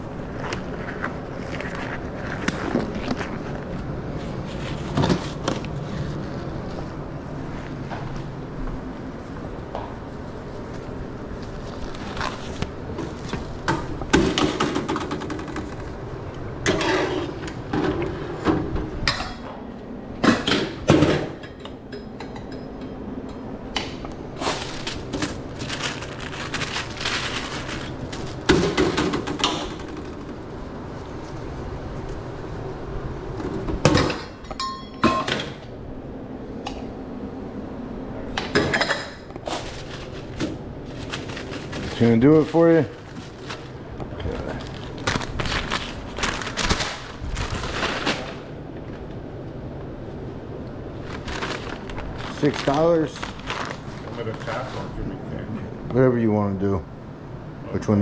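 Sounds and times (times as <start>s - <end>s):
steady background noise: 0.0s - 58.0s.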